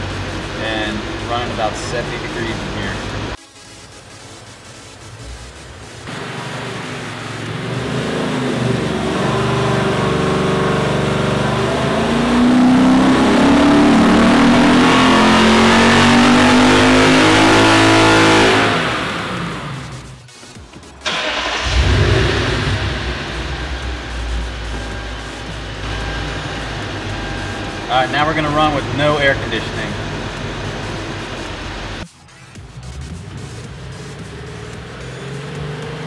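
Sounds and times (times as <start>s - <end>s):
car engine revving at full throttle: 0.0s - 3.4s, 6.0s - 20.3s, 21.0s - 32.0s, 32.6s - 36.0s.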